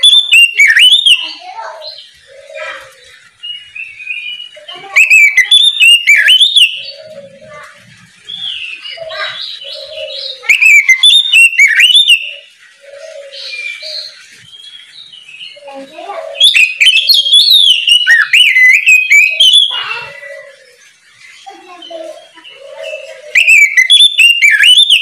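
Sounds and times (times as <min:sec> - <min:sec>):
bird singing whistled notes: 0:00.0 - 0:15.8, 0:16.4 - 0:25.0
soft bird calls: 0:00.0 - 0:25.0.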